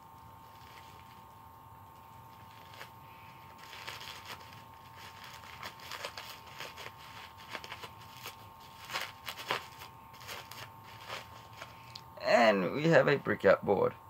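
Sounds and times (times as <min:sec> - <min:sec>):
bubble wrap crinkling and crackling: 0:00.0 - 0:12.0
faint steady hum: 0:00.0 - 0:14.0.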